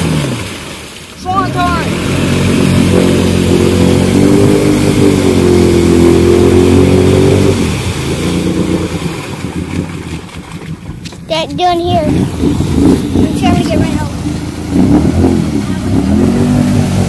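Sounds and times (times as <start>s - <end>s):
atv engine revving: 0.0s - 17.0s
tires churning through mud: 0.0s - 17.0s.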